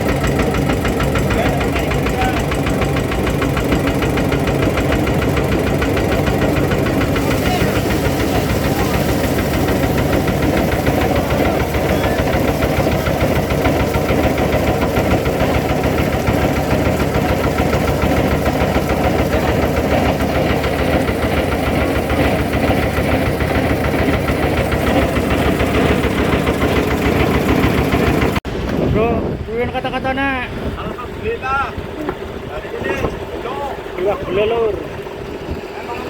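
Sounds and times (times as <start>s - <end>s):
boat engine running: 0.0s - 36.0s.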